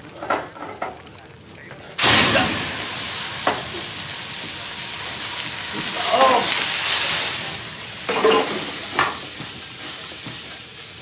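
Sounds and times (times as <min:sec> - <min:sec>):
pan fire hissing and sizzling: 0:00.0 - 0:11.0.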